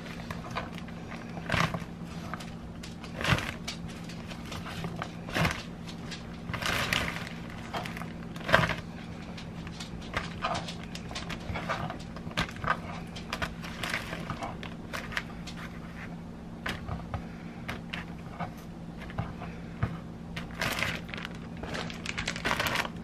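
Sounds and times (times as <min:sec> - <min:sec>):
plastic bag crinkling: 0:00.0 - 0:16.1, 0:20.3 - 0:23.0
steady low hum: 0:00.0 - 0:23.0.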